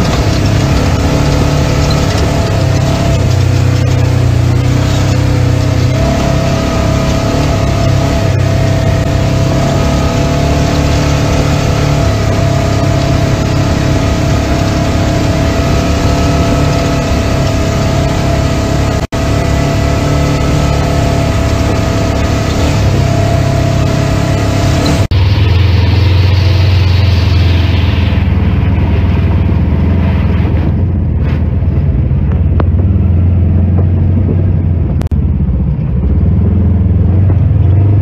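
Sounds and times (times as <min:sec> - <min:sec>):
vehicle engine droning with whine: 0:00.0 - 0:38.0.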